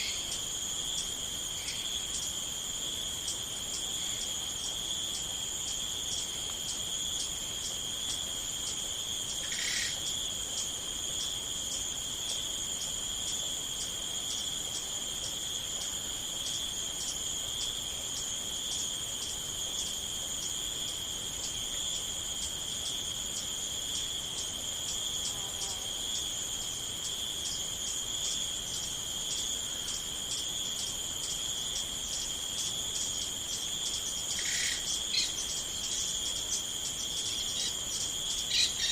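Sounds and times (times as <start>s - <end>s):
crickets trilling: 0.0s - 38.9s
short insect call: 0.0s - 38.9s.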